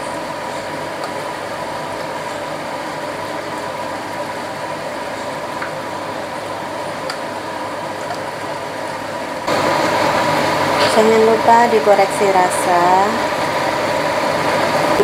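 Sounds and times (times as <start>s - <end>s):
pot simmering: 0.0s - 15.0s.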